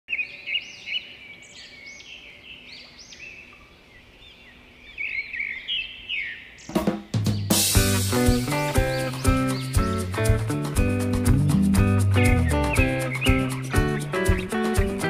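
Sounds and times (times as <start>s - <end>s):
birds chirping: 0.1s - 15.0s.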